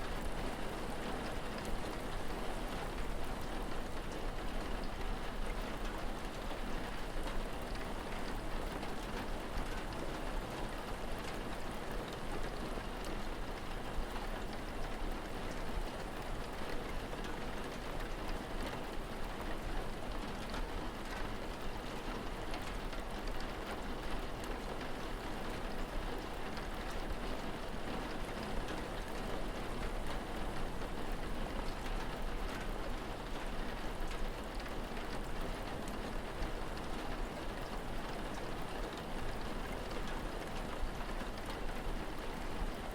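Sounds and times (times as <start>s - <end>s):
steady rain: 0.0s - 42.9s
raindrop ticks: 0.1s - 42.9s.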